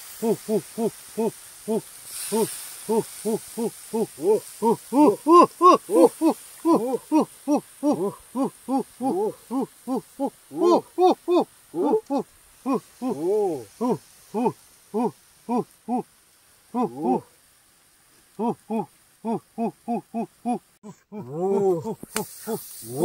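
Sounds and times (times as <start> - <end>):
rapid animal hooting calls: 0.0 - 17.4, 18.4 - 23.0.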